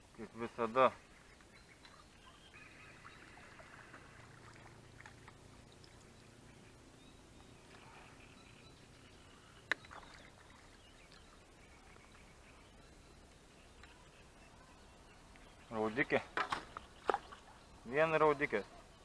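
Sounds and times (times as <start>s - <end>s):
faint outdoor ambience: 0.0s - 19.0s.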